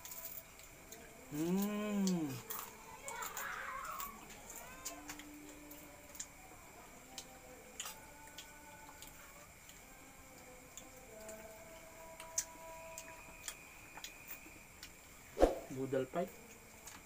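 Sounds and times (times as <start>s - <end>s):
crunchy chewing: 0.0s - 15.0s, 16.2s - 17.0s.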